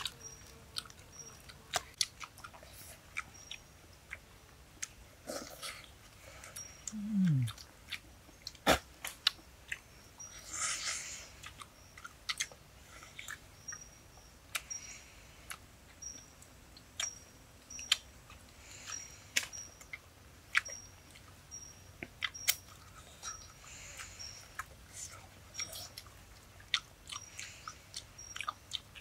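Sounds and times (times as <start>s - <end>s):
wet chewing and lip-smacking: 0.0s - 14.8s, 15.5s - 29.0s.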